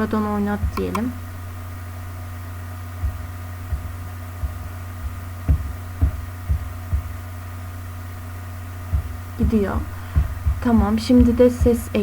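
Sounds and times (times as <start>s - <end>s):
low electrical hum: 0.0s - 12.0s
soft low thumps: 0.0s - 12.0s.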